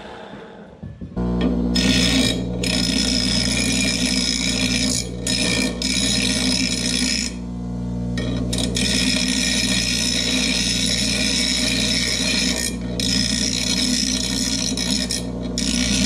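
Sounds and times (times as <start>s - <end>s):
bench grinder motor hum: 1.2s - 16.0s
metal pipe grinding hiss: 1.7s - 7.4s, 8.2s - 16.0s.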